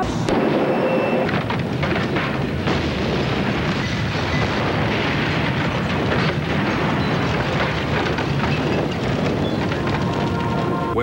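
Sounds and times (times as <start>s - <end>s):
fire roaring: 0.0s - 11.0s.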